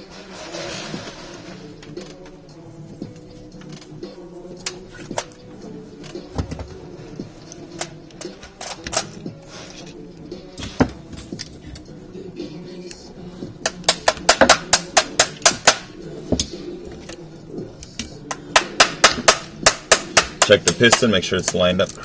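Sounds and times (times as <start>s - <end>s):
faint music: 0.0s - 22.0s.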